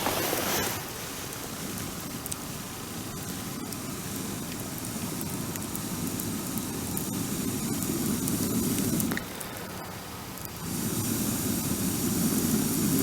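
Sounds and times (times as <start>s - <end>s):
bonfire crackling and popping: 0.0s - 13.0s
low rushing fire noise: 0.0s - 13.0s.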